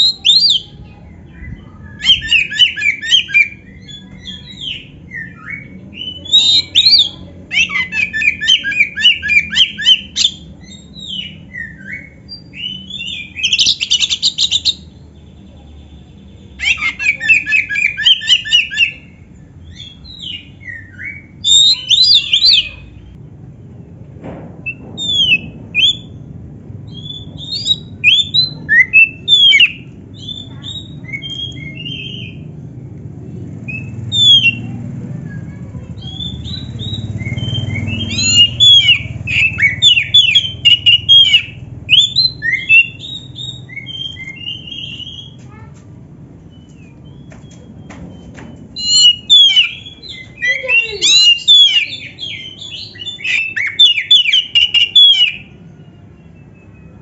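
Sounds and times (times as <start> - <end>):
songbird singing: 0.0 - 23.2, 26.9 - 34.9, 35.5 - 57.0.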